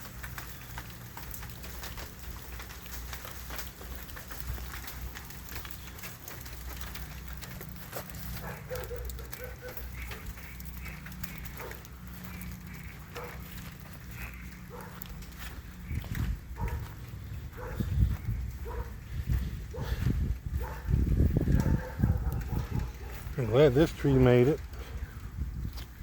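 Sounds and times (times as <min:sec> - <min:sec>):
crackles and ticks: 0:00.0 - 0:26.0
wind rumbling on microphone: 0:00.0 - 0:26.0.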